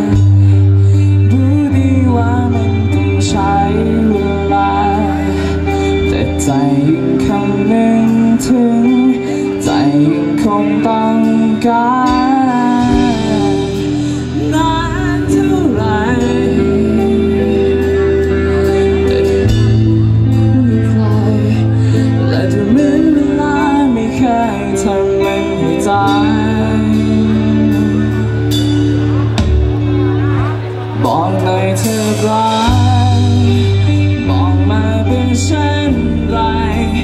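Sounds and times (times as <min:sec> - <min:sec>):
amplified guitars: 0:00.0 - 0:37.0
low bass notes: 0:00.0 - 0:37.0
man singing: 0:00.0 - 0:37.0.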